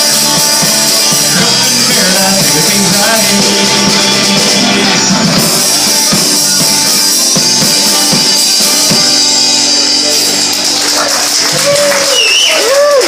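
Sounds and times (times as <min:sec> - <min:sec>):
drum kit hits: 0:00.0 - 0:10.7
live rock band playing: 0:00.0 - 0:13.0.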